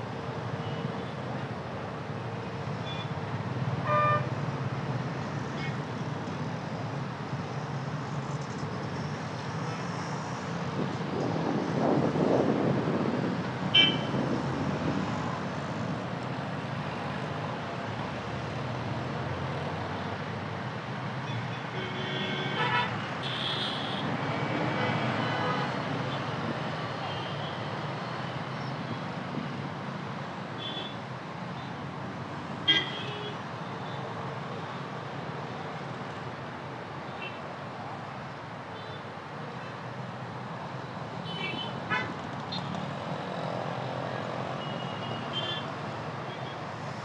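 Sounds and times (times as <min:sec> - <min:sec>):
traffic rumble: 0:00.0 - 0:47.0.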